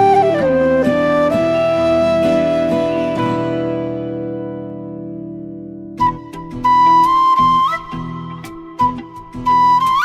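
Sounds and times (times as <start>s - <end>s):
flute-like melody: 0.0s - 4.7s, 6.0s - 10.0s.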